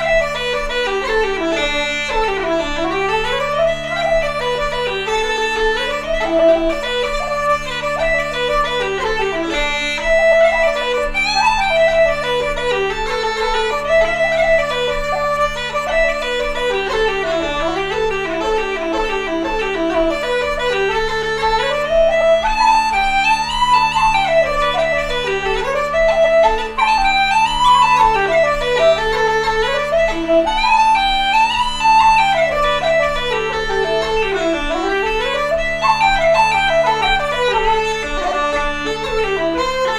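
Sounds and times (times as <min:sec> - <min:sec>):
bagpipe drone and melody: 0:00.0 - 0:39.9
wooden flute playing a jig: 0:00.0 - 0:39.9.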